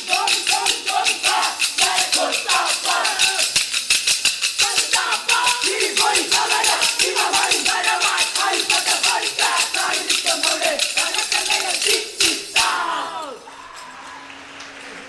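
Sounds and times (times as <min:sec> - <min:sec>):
wooden sticks clacking: 0:00.0 - 0:13.0
voices singing: 0:00.0 - 0:15.0.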